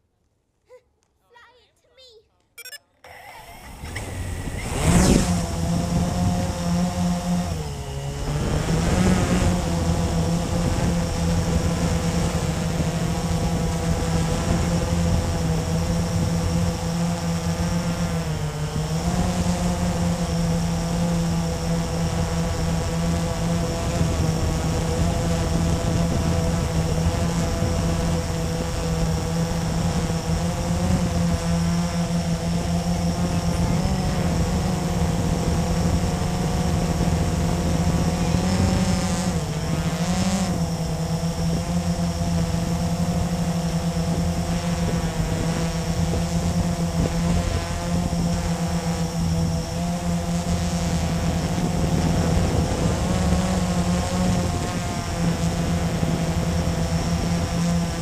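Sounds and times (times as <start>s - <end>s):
quadcopter propellers buzzing: 2.6s - 58.0s.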